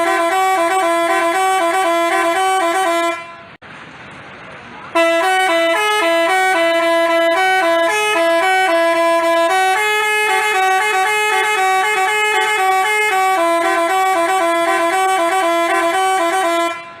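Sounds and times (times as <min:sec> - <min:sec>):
multi-tone bus horn melody: 0:00.0 - 0:03.6, 0:04.9 - 0:17.0.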